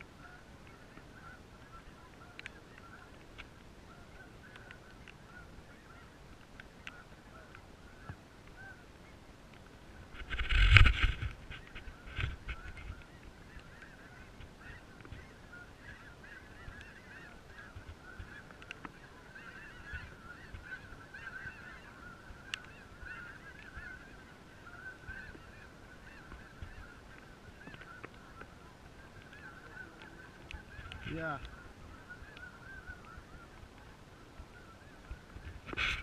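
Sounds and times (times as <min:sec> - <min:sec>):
flock of geese honking: 0:00.0 - 0:36.0.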